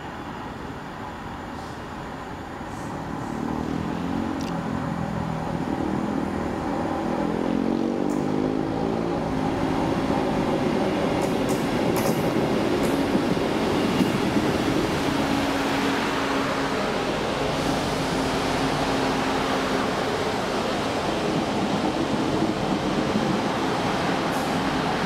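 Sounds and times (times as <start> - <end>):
diesel train engine: 0.0 - 25.0.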